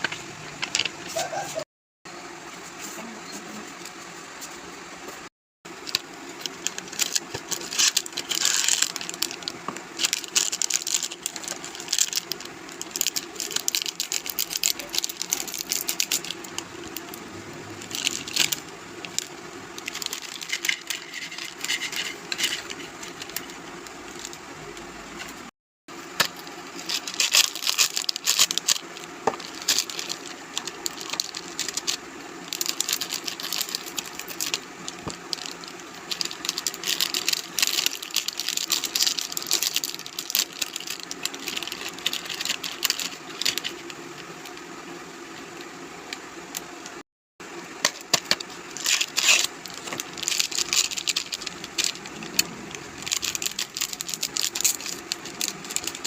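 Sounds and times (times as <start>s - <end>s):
snack packaging crinkling: 5.7s - 25.4s, 26.0s - 46.7s, 47.8s - 56.0s.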